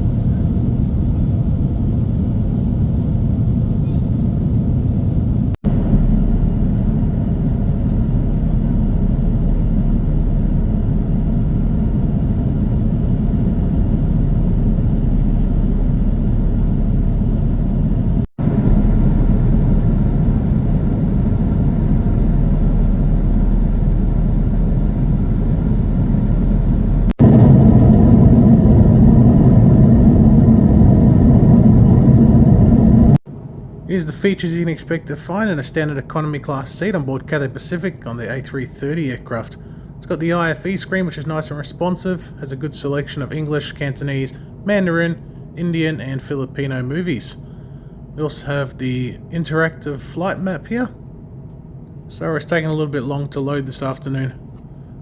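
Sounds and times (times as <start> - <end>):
airliner cabin roar: 0.0 - 55.0.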